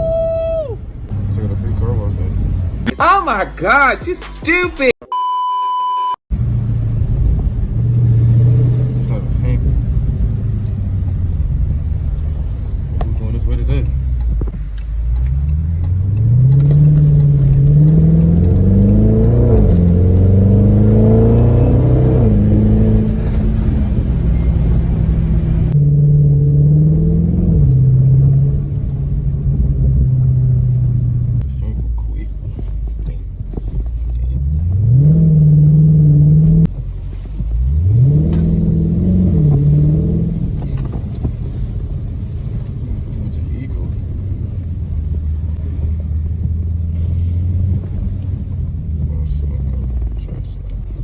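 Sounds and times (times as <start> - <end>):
car engine accelerating through gears: 0.0 - 2.9, 6.3 - 51.0.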